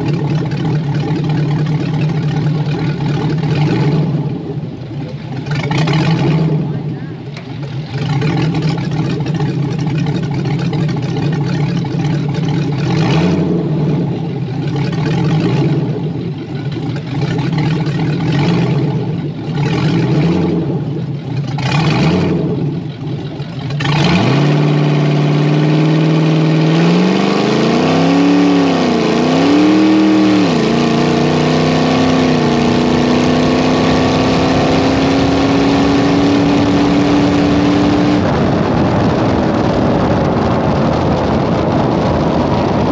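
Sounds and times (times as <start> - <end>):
engine revving: 0.0 - 42.9.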